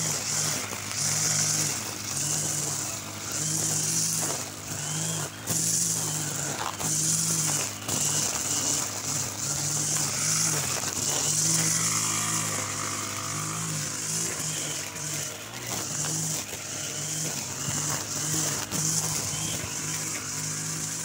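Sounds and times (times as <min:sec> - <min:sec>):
brush cutter engine: 0:00.0 - 0:21.0
trimmer line hissing through grass: 0:00.0 - 0:21.0.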